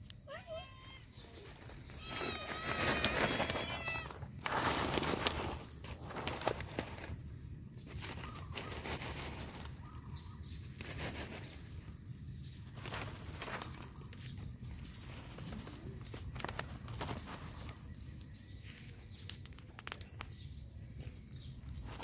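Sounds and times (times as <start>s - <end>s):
rustling and shuffling: 1.0s - 22.0s.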